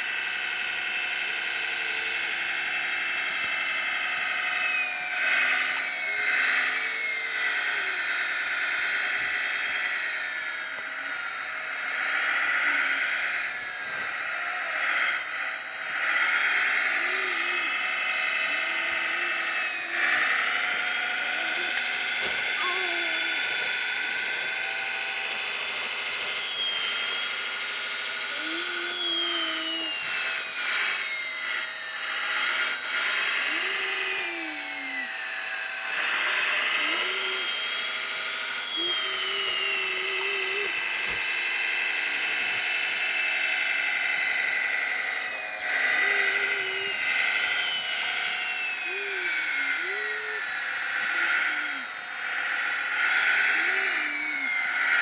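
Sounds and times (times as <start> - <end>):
electric motors whining: 0.0 - 55.0
low motor hums: 0.9 - 54.8.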